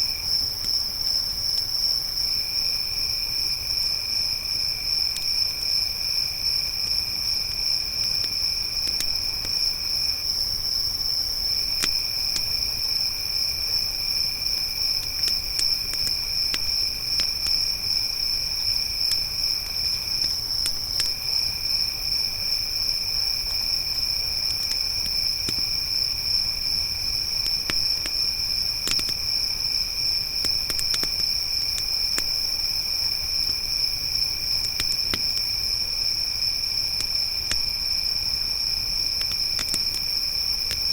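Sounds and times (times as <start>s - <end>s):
crickets chorus trilling: 0.0s - 40.9s
campfire crackling and popping: 4.8s - 40.9s.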